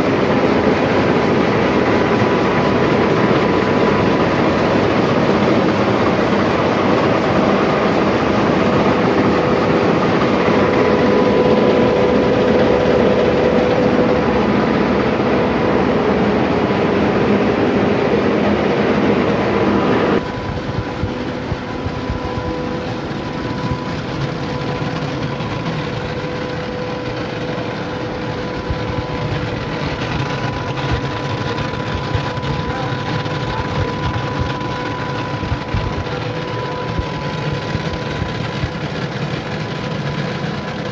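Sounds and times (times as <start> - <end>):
constant hum: 0.0 - 40.9
mill machinery running: 0.0 - 40.9.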